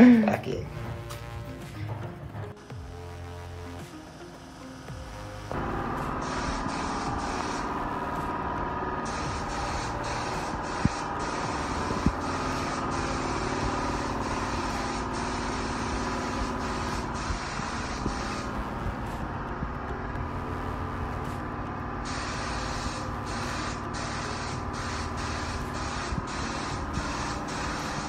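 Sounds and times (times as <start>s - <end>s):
steady low hum: 2.6s - 28.0s
spray gun hissing: 5.4s - 28.0s.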